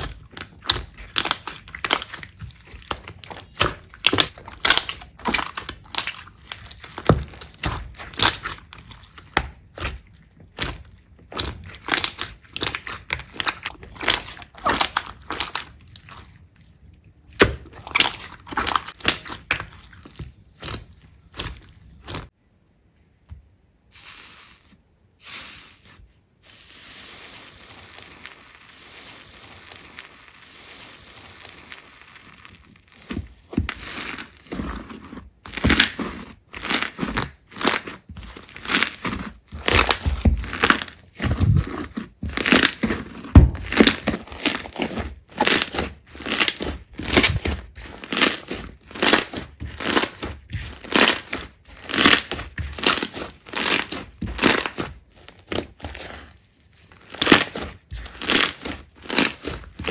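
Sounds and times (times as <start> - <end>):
slime crackling and squelching: 0.0 - 22.4, 23.9 - 59.9.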